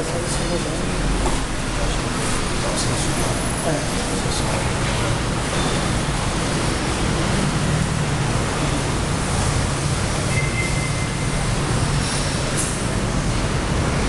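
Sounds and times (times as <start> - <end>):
electric fan running: 0.0 - 14.0.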